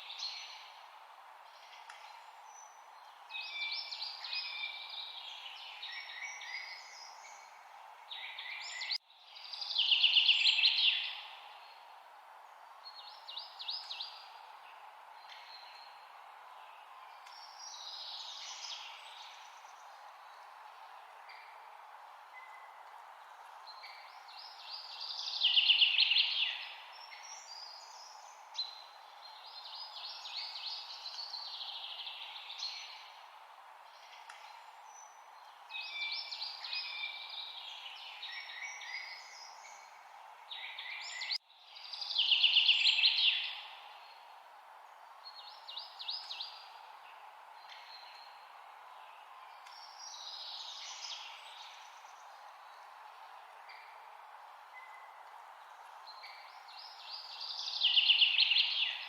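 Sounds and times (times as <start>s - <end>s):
songbird singing: 0.0s - 59.0s
steady background hiss: 0.0s - 59.0s.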